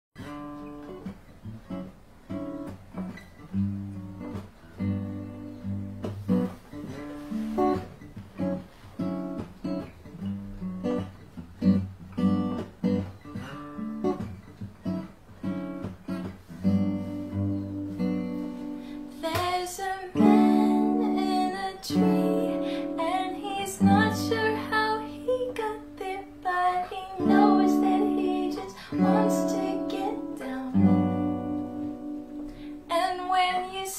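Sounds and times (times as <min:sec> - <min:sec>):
acoustic guitar strumming: 0:00.2 - 0:33.4.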